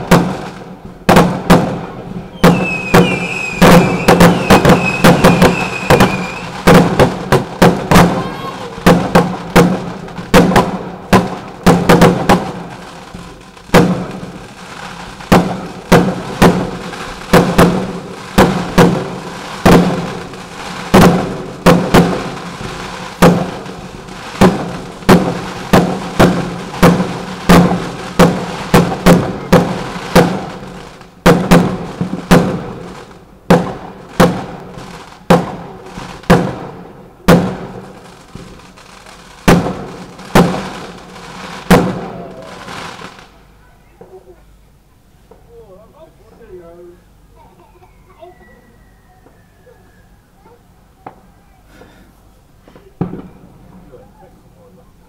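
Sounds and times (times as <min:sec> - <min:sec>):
fireworks bangs echoing: 0:00.0 - 0:44.2, 0:52.6 - 0:54.3.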